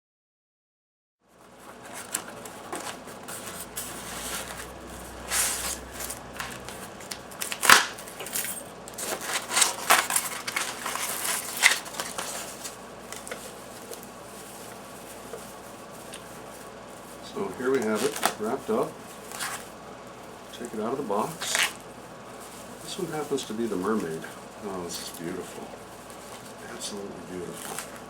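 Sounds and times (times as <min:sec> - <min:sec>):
packaging rustling and crinkling: 0:01.3 - 0:28.0.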